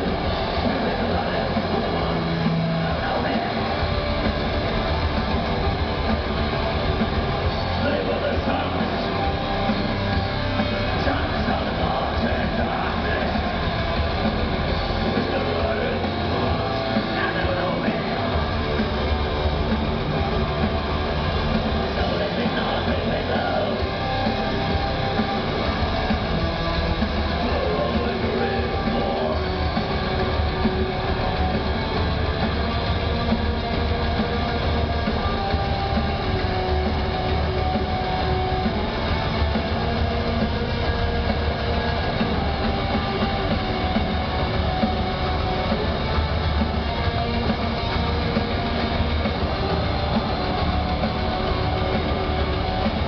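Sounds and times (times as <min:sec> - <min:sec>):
distorted electric guitars: 0:00.0 - 0:53.0
drums: 0:00.0 - 0:53.0.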